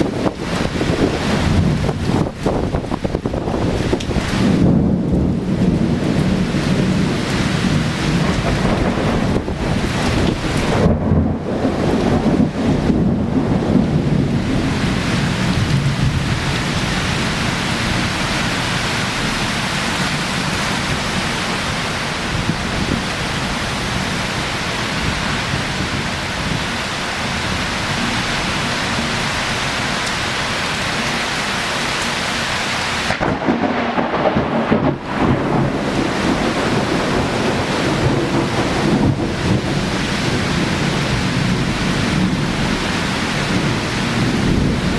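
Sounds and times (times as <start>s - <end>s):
torrential rain pouring: 0.0s - 44.9s.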